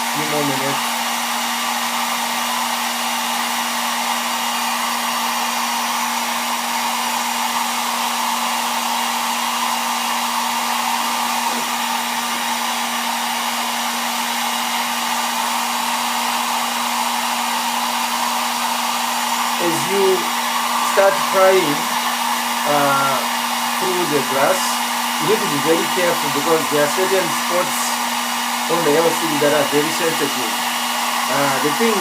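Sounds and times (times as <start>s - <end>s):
hair dryer running: 0.0s - 32.0s.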